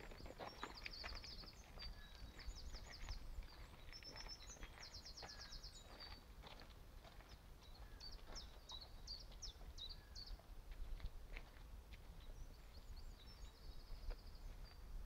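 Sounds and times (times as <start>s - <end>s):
songbirds singing: 0.0s - 10.5s, 12.0s - 15.0s.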